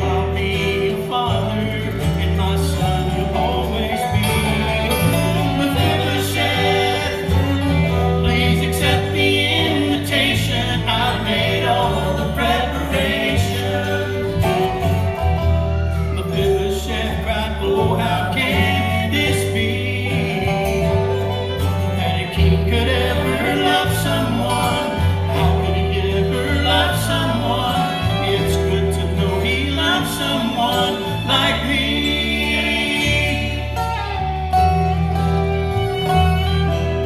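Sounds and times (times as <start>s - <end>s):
gospel vocal group singing: 0.0s - 35.3s
bluegrass acoustic band: 0.0s - 37.0s.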